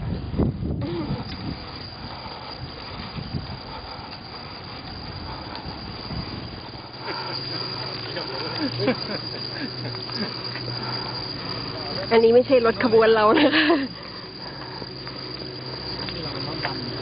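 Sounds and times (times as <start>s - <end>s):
wind noise: 0.0s - 14.1s
bicycle road noise: 0.0s - 17.0s.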